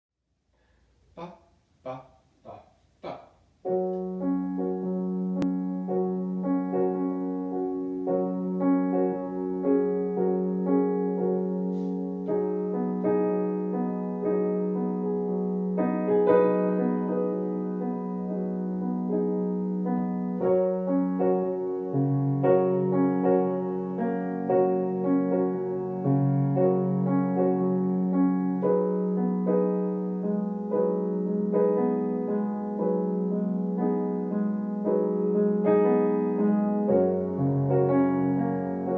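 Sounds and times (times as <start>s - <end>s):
grand piano chords: 3.5s - 38.9s.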